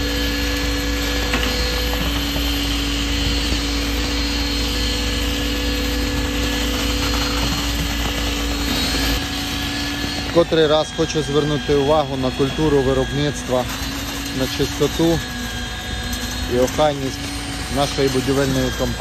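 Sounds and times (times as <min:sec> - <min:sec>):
machinery motor hum: 0:00.0 - 0:19.0
noisy whir: 0:00.0 - 0:19.0.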